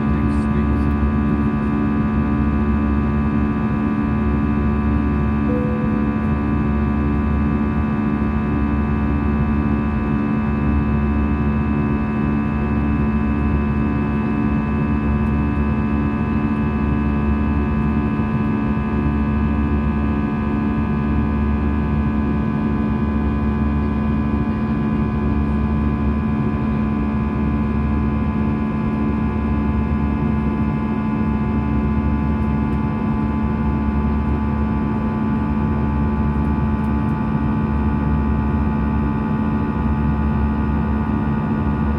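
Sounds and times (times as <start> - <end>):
airliner cabin engine drone: 0.0 - 41.9.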